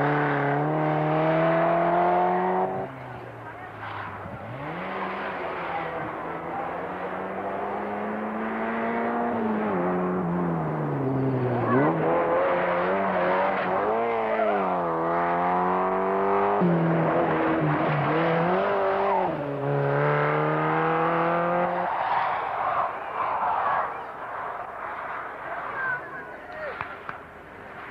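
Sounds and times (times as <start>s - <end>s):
rally car engine revving: 0.0s - 26.1s.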